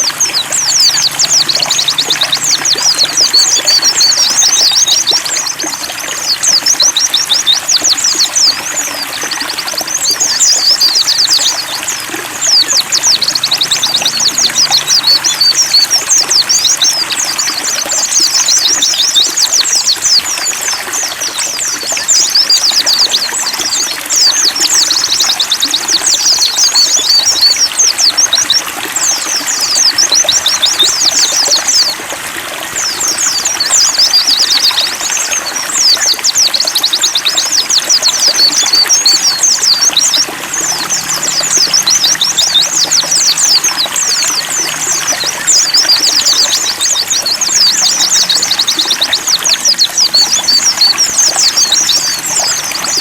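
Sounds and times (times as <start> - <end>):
birds twittering trills: 0.0 - 53.0
water trickling: 0.0 - 53.0.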